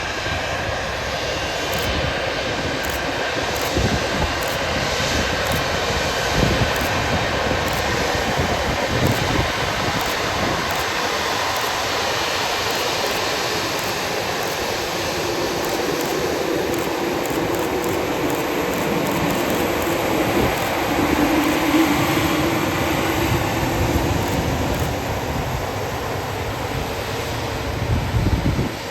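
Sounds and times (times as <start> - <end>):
jet engines running: 0.0 - 28.9.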